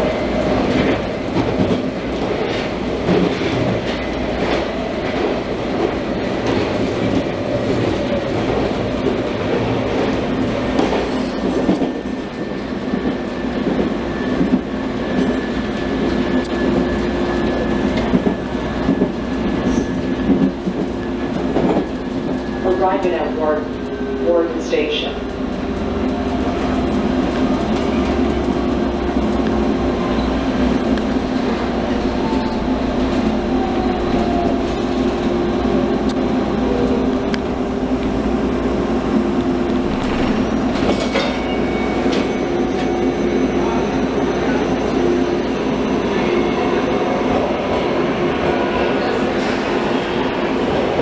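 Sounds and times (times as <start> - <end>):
subway running gear hum: 0.0 - 51.0
wheels rumbling on track: 0.0 - 51.0.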